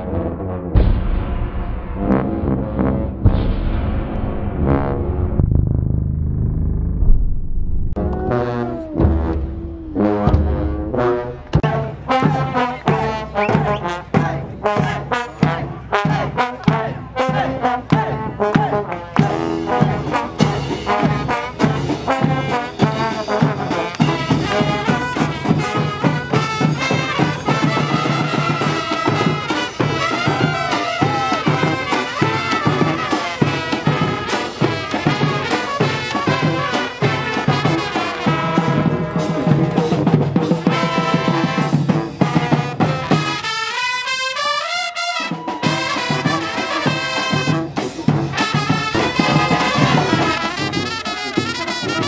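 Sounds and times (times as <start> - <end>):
brass band playing: 0.0 - 5.4, 8.0 - 52.0
marching drums: 0.8 - 5.6, 7.9 - 52.0.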